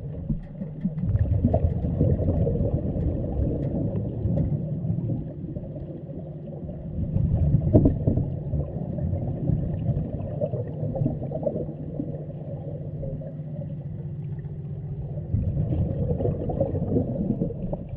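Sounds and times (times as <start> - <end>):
underwater rumble: 0.0 - 17.9.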